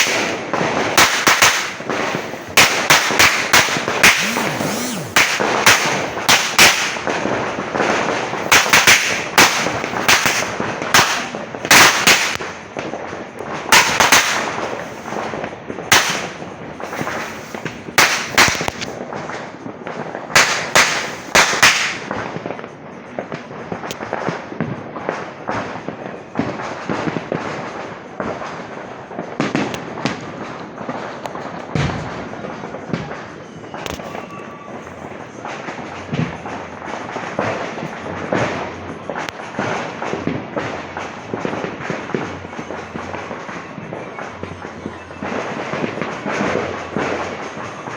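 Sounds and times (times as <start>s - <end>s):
firecrackers banging: 0.0s - 47.9s.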